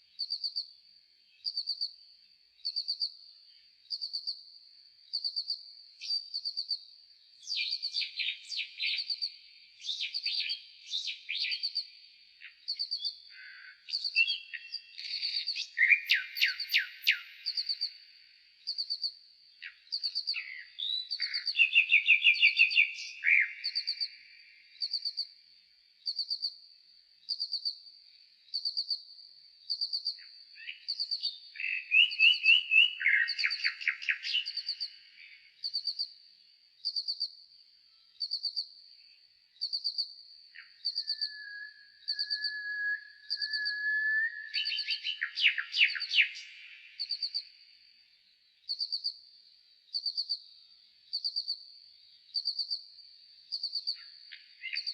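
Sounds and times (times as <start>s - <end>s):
slowed bird song: 0.0s - 26.6s, 27.2s - 54.9s.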